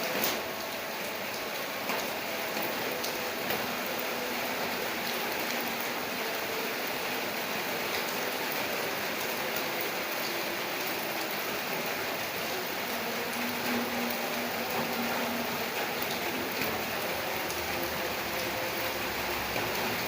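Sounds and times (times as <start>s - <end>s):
raindrops ticking on a surface: 0.0s - 20.0s
steady rain hiss: 0.0s - 20.0s.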